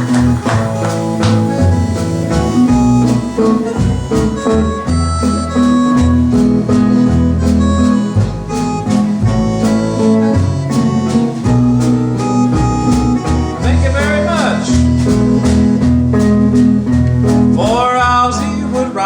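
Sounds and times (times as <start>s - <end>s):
bass line: 0.0s - 19.0s
country waltz played live: 0.0s - 19.0s
plucked strings: 0.0s - 19.0s
sustained melody line: 0.0s - 19.0s.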